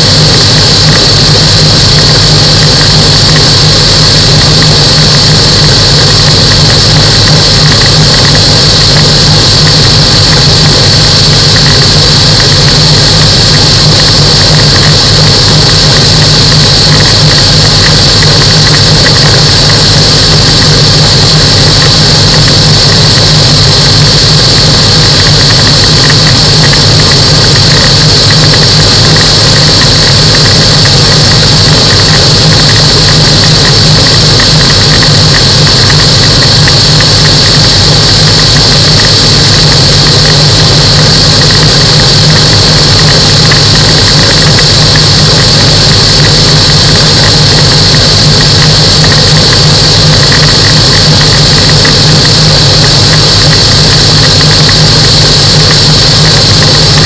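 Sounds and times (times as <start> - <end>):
aircraft engine and propeller drone: 0.0 - 57.0
high-pitched whine: 0.0 - 57.0.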